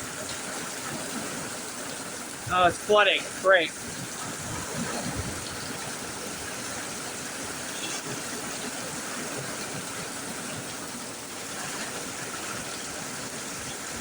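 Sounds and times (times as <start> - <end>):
heavy rain pouring: 0.0 - 14.0
water running and gushing: 0.0 - 14.0.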